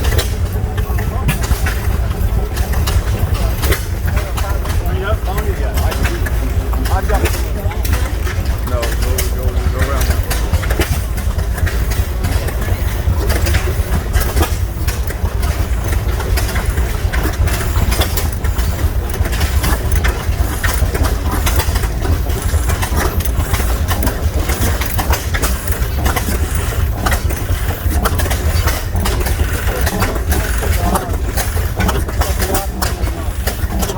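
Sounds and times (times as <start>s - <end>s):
gas engines rumbling: 0.0s - 33.9s
sharp irregular knocks and clicks: 0.0s - 33.9s.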